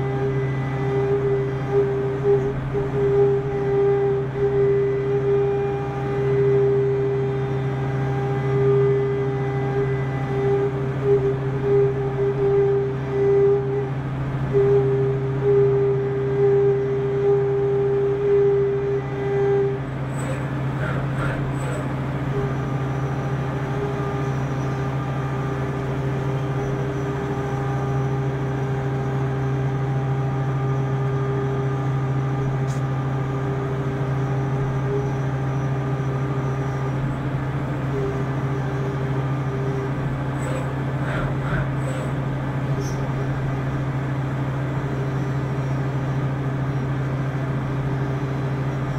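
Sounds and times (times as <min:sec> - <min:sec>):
high steady machine tone: 0:00.0 - 0:48.9
machine low hum: 0:00.0 - 0:48.9.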